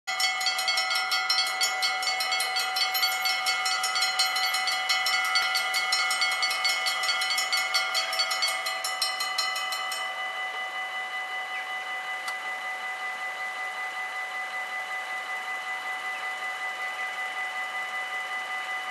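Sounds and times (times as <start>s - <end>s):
level-crossing warning bell ringing: 0.0s - 18.9s.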